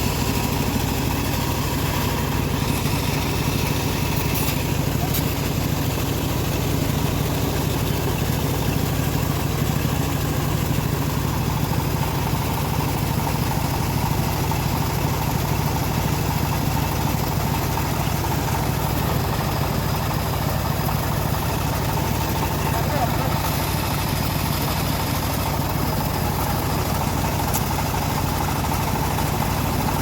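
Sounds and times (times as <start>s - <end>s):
sawmill drive drone: 0.0s - 30.0s.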